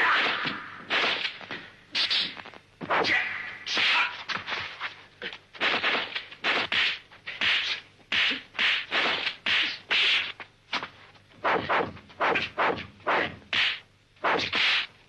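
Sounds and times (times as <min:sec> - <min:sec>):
sharp whacks of punches: 0:00.0 - 0:04.4, 0:05.6 - 0:14.9.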